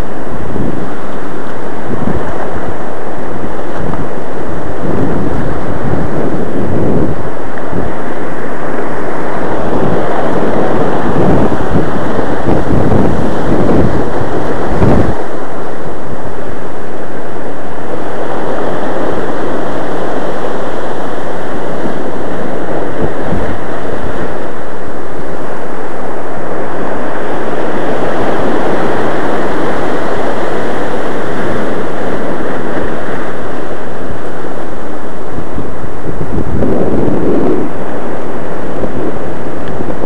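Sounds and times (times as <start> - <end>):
surf breaking over rocks: 0.0 - 40.0
wind buffeting microphone: 0.0 - 40.0.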